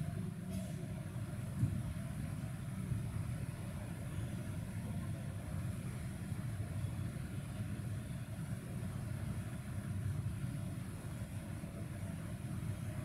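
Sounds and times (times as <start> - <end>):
low room noise rumble: 0.0 - 13.0.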